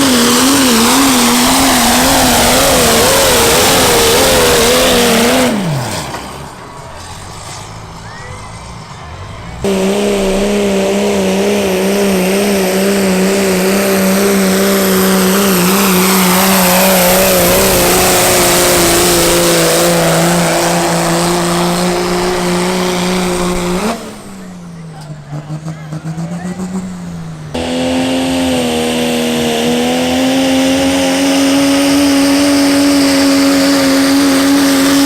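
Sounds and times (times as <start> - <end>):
diesel truck engine at full throttle: 0.0 - 35.0.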